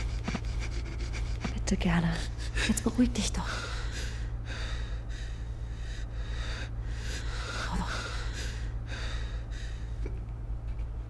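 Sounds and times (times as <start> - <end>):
person breathing heavily: 0.0 - 10.2
low steady hum: 0.0 - 11.0.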